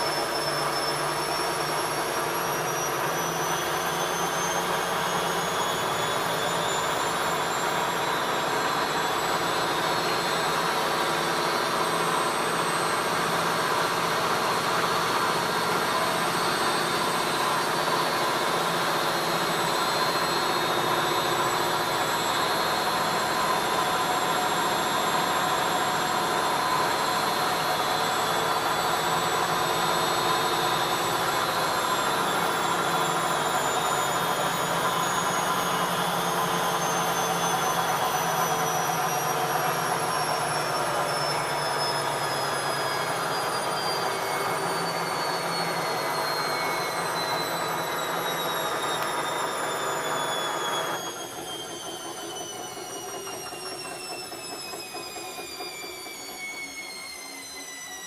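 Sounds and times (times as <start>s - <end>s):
high whine: 0.0s - 54.4s
washing machine spinning: 0.0s - 58.0s.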